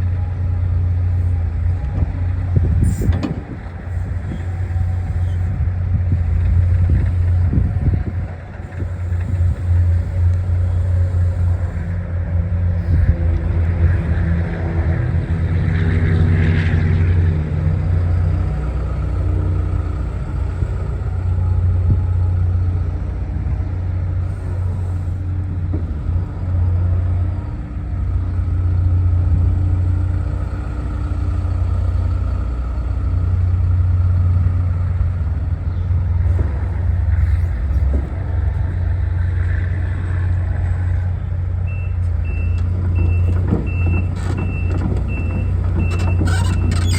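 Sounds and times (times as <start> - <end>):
excavator diesel engine droning: 0.0 - 46.9.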